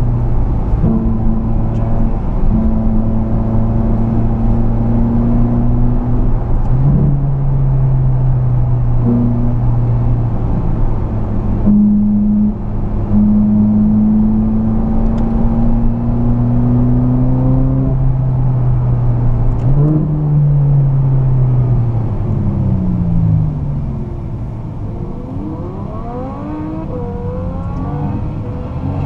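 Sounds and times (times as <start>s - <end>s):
car engine from inside cabin: 0.0s - 29.0s.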